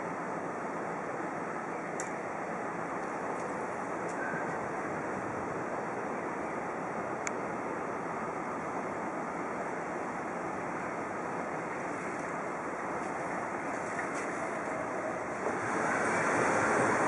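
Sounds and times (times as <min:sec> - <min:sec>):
street ambience rushing noise: 0:00.0 - 0:17.0.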